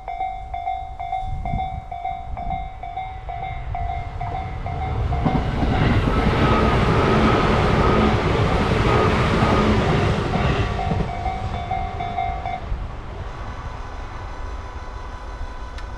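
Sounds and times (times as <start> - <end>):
crossing warning bell ding: 0.0 - 12.8
electric train passing: 0.0 - 15.9.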